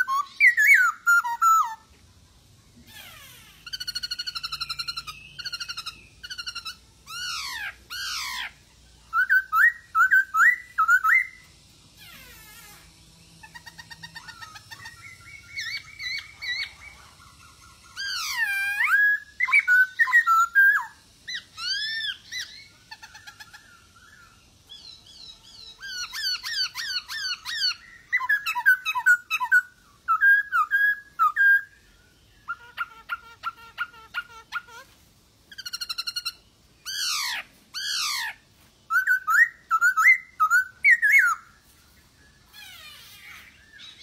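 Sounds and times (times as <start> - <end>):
bird singing whistles and chatter: 0.0 - 2.0, 2.8 - 44.0.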